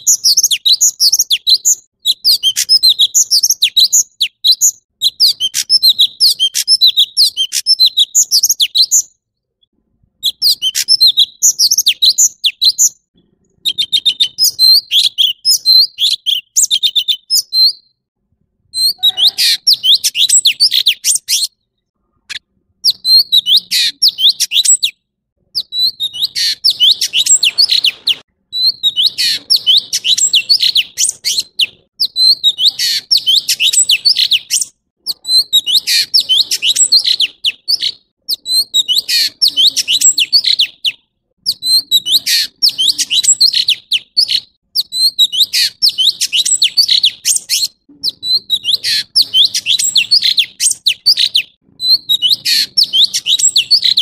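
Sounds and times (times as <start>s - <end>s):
bird singing: 0.0s - 9.2s, 10.2s - 18.1s, 18.7s - 54.0s.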